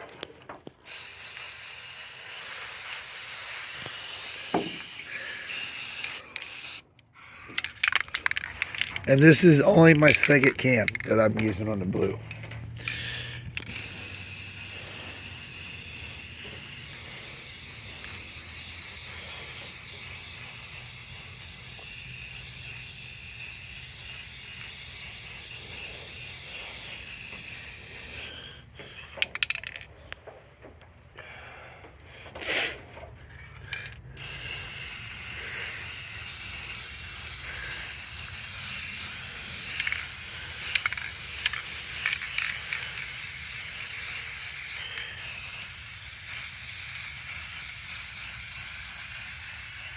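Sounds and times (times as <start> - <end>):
spray can hissing: 0.8 - 6.8, 7.5 - 12.4, 13.6 - 28.3, 34.2 - 49.9.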